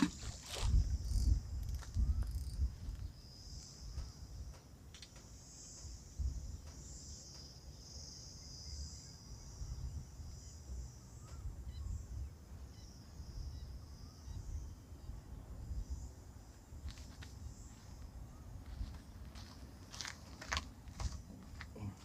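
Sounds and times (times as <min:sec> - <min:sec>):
insect chorus: 0:00.0 - 0:22.0.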